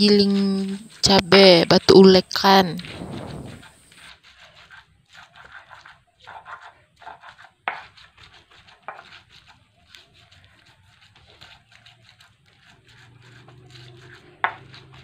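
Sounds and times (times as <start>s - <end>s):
pestle grinding in stone mortar: 0.0s - 2.9s, 3.5s - 15.0s.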